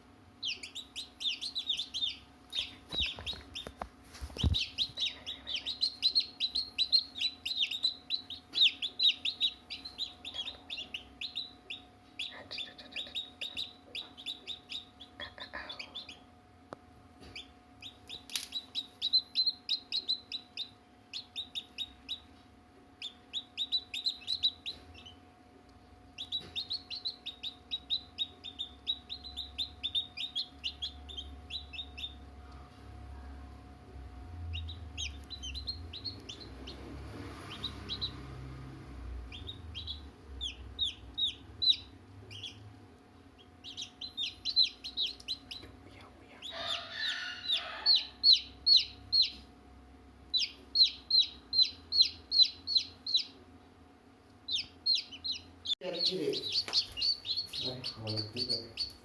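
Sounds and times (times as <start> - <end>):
chicks peeping: 0.0 - 49.6, 50.2 - 53.6, 54.3 - 59.0
steady low hum: 0.0 - 59.0.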